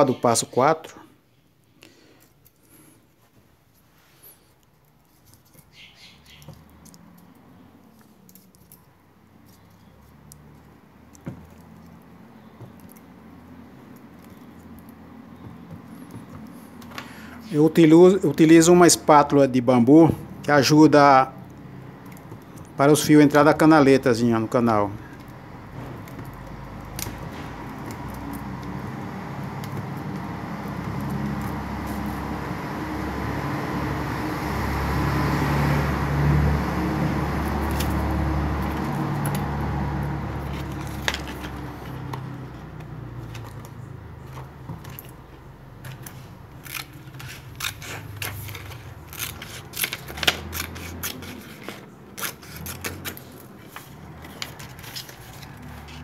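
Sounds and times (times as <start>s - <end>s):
wire coils clicking and rustling: 2.2s - 17.5s, 21.2s - 24.0s, 24.7s - 34.2s, 35.8s - 56.0s.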